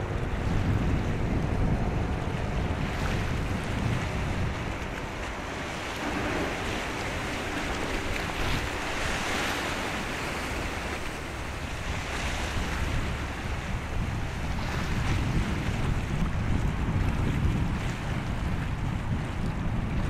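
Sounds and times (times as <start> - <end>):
water washing: 0.0 - 16.2
wind buffeting microphone: 0.0 - 20.0.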